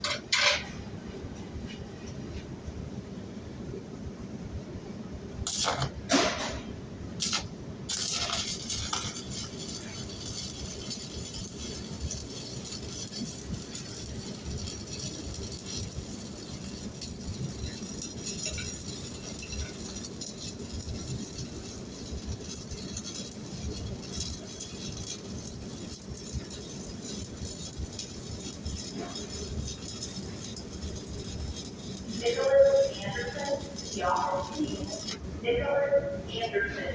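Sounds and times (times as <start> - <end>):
welding arc crackling: 5.4 - 36.9.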